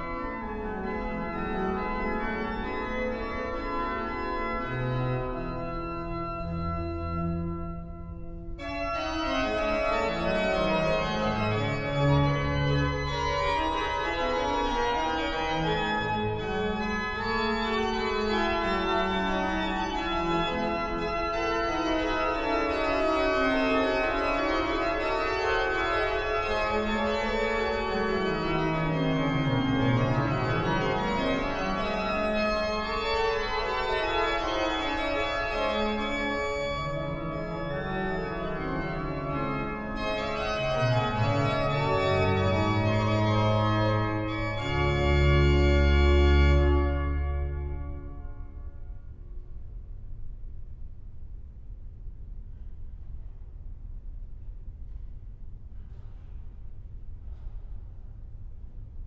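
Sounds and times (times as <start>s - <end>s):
pipe organ playing chords: 0.0s - 49.2s.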